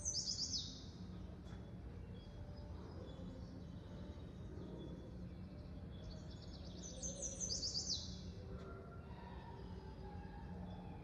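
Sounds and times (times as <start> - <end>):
recorded birdsong over loudspeakers: 0.0 - 11.0.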